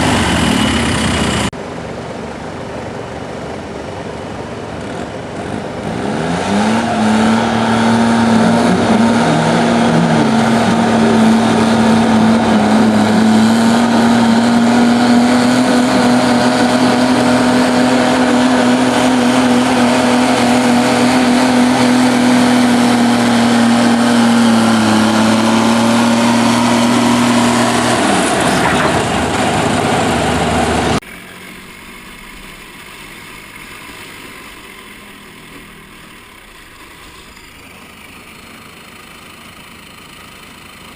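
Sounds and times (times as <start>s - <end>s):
diesel tractor engine running hard: 0.0s - 40.9s.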